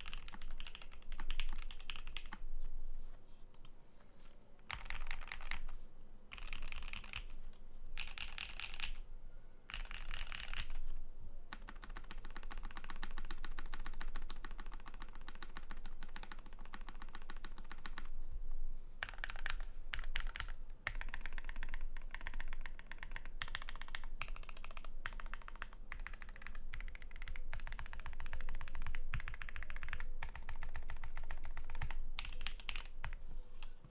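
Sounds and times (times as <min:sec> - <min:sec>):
mechanical keyboard typing: 0:00.0 - 0:02.4, 0:04.7 - 0:05.7, 0:06.3 - 0:07.3, 0:08.0 - 0:09.0, 0:09.7 - 0:10.9, 0:11.5 - 0:18.1, 0:19.0 - 0:33.2.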